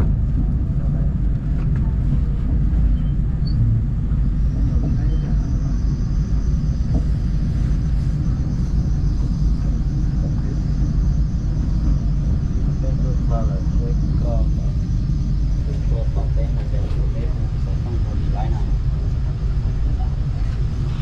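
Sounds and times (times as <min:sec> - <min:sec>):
faint high pulsing whine: 0:00.0 - 0:21.0
train rumbling: 0:00.0 - 0:21.0.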